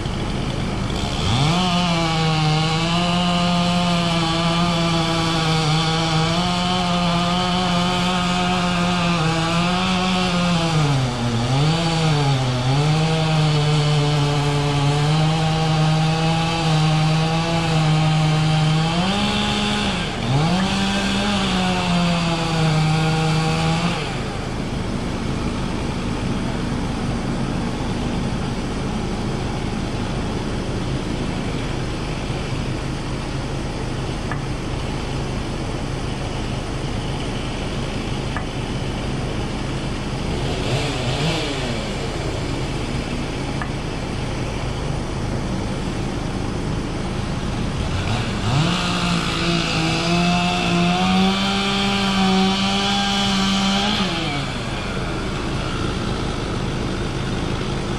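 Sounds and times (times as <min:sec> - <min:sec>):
engine idling and revving: 0:00.0 - 0:57.9.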